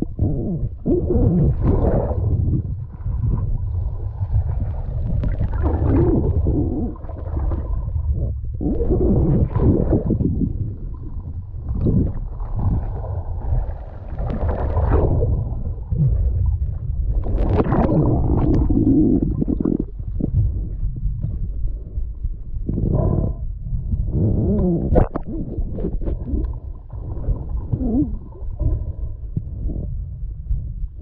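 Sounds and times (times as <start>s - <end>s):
muffled underwater rumble: 0.0s - 31.0s
water sloshing and gurgling: 0.0s - 31.0s.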